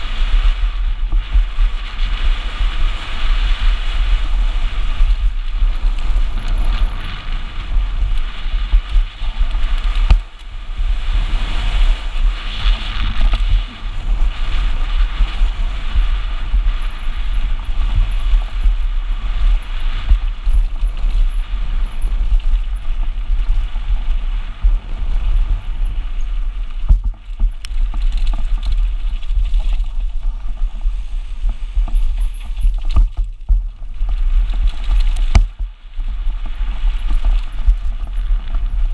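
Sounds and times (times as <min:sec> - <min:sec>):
bike chain and frame rattling: 0:00.0 - 0:38.9
wind buffeting microphone: 0:00.0 - 0:38.9.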